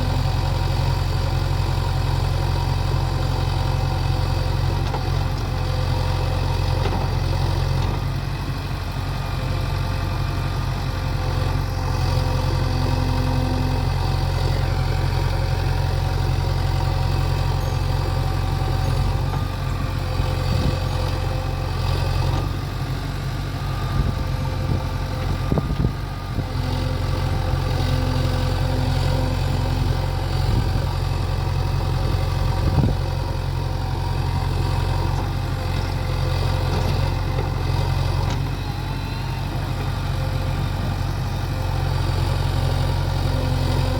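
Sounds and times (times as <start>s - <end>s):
diesel engines idling: 0.0s - 43.9s.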